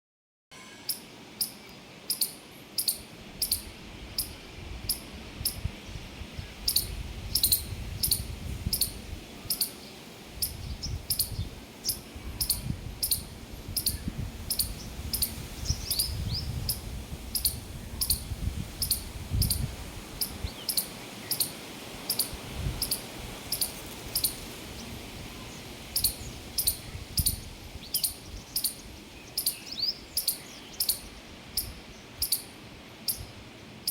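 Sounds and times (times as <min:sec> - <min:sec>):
small bird chirping: 0:00.8 - 0:05.6, 0:06.6 - 0:24.4, 0:25.5 - 0:32.5.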